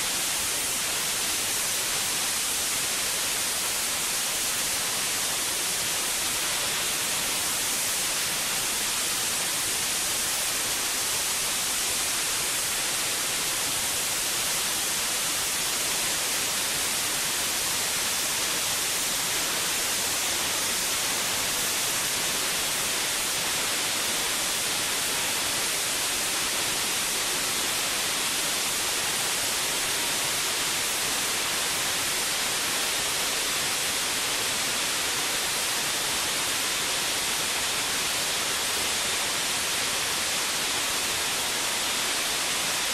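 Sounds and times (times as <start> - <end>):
fire hose spraying water: 0.0 - 42.9.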